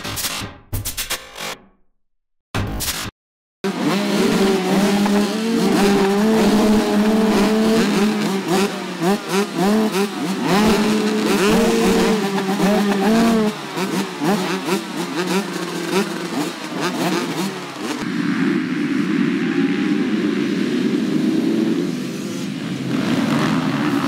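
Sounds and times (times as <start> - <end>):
motocross bikes revving: 3.7 - 24.0.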